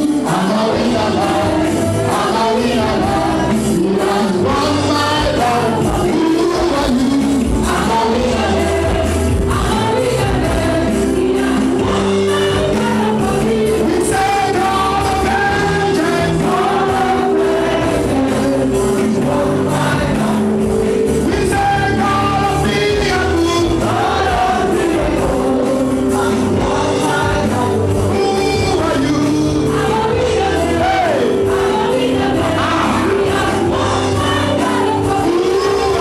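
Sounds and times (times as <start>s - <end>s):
congregation singing: 0.0s - 36.0s.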